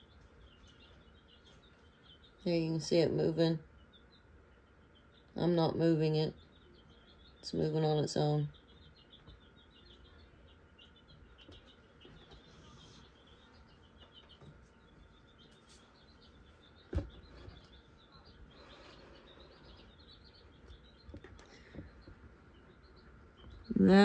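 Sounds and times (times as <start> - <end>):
faint high chirping: 3.6 - 24.0.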